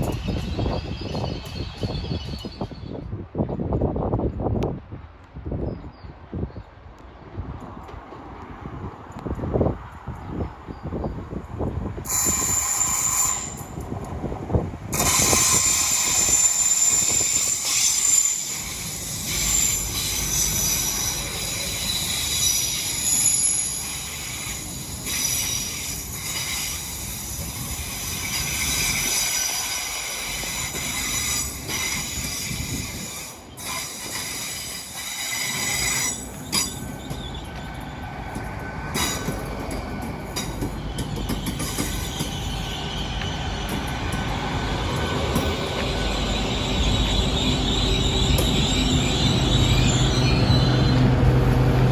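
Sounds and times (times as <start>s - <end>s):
train wheels squealing: 0.0s - 3.1s, 12.0s - 14.1s, 14.9s - 51.9s
train rumbling on rails: 0.0s - 51.9s.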